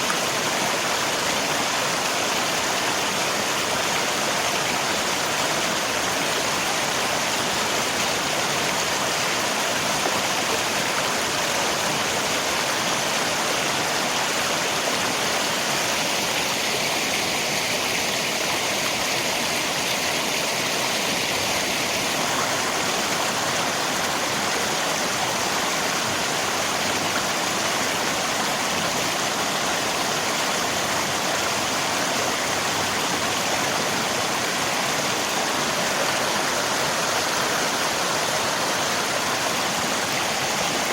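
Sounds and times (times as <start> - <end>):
rain: 0.0 - 40.9
rushing river water: 0.0 - 40.9.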